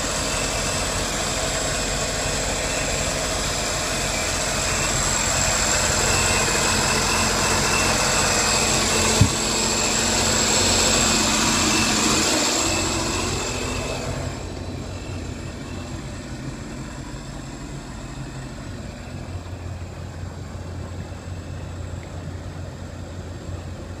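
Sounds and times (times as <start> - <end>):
boat engine whining and rumbling: 0.0 - 24.0.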